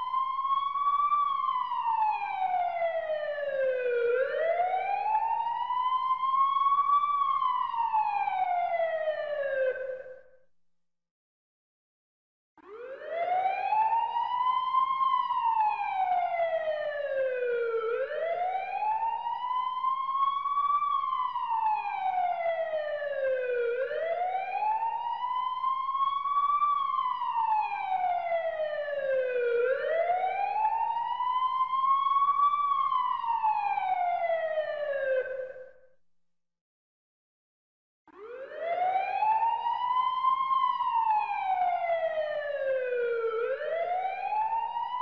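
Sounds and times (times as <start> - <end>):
emergency siren wailing: 0.0 - 10.2, 12.6 - 35.8, 38.1 - 45.0.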